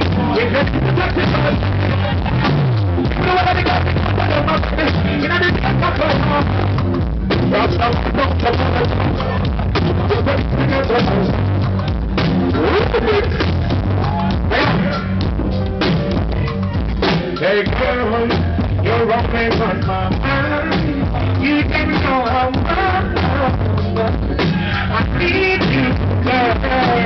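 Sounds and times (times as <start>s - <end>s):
live reggae band playing: 0.0s - 27.0s.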